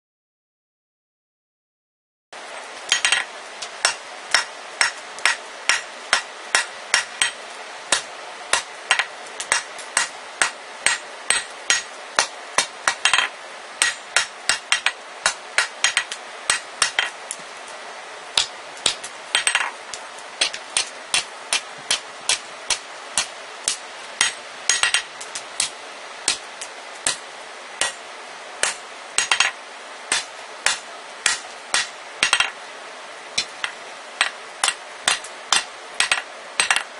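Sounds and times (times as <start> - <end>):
hammer striking metal on anvil: 2.9 - 17.4, 18.4 - 19.8, 20.4 - 26.4, 27.0 - 27.2, 27.8 - 28.0, 28.6 - 32.6, 33.4 - 36.9.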